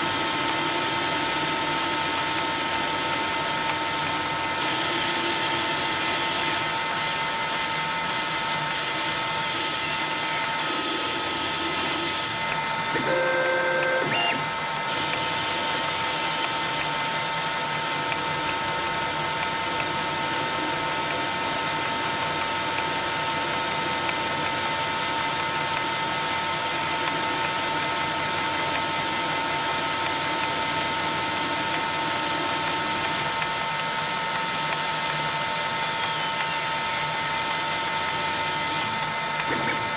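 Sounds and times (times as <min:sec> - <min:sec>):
lathe whine: 0:00.0 - 0:39.9.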